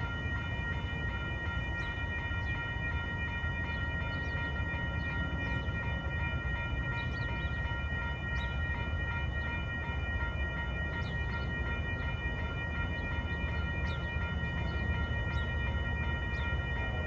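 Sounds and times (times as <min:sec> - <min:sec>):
crossing warning bell ringing: 0:00.0 - 0:17.0.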